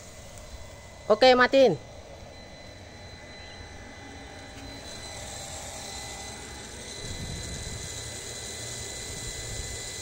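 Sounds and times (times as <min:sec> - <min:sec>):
water pump motor hum and whine: 0:00.0 - 0:10.0.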